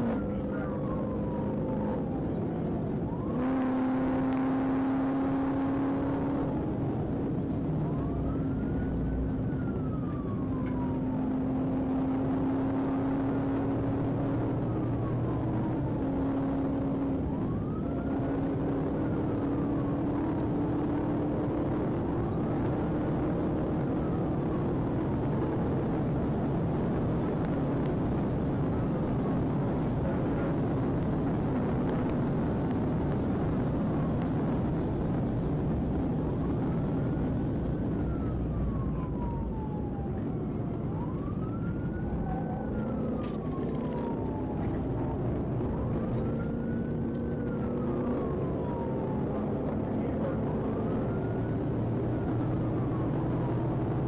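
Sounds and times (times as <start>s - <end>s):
police siren wailing: 0.0s - 54.0s
vehicle engine and road noise: 0.0s - 54.0s.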